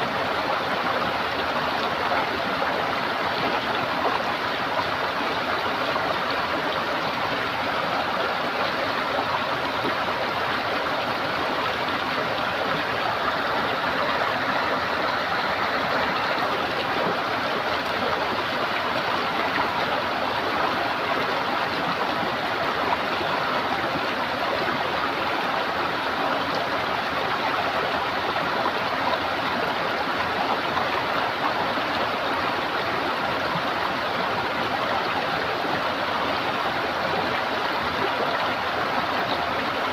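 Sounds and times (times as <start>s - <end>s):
running water gurgling: 0.0s - 39.9s.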